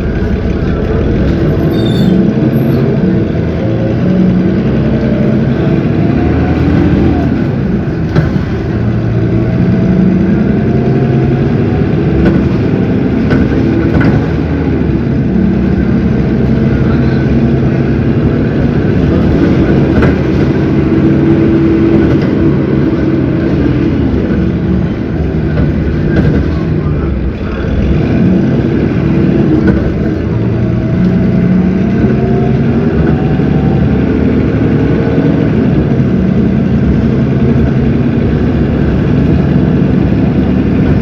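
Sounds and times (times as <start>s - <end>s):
bus diesel engine running: 0.0s - 41.0s.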